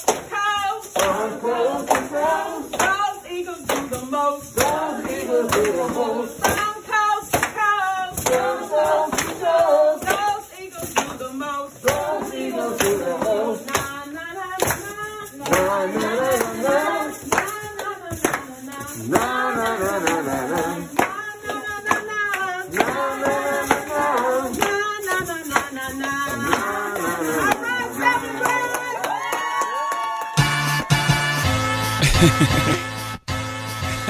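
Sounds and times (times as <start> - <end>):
group of voices singing: 0.0 - 29.0
hand claps: 0.0 - 31.4.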